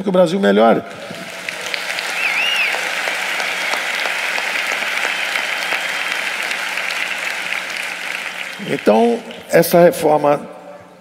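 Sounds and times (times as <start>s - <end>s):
large audience applauding: 0.9s - 9.8s.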